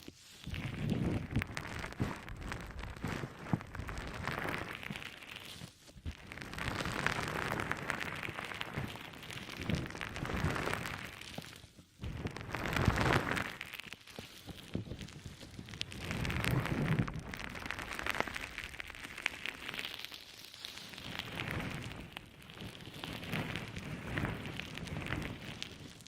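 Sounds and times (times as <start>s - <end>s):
wet sponge squelching: 0.0s - 26.0s.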